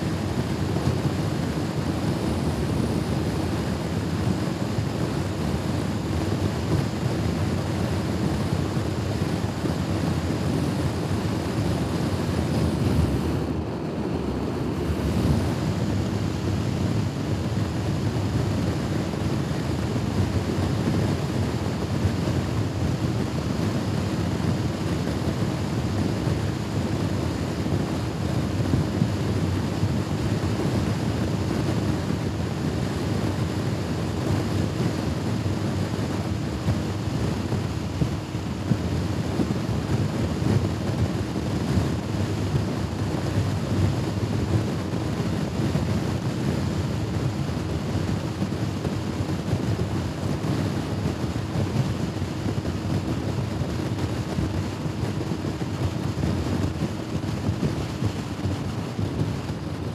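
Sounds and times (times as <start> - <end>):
wind rushing on microphone: 0.0 - 59.9.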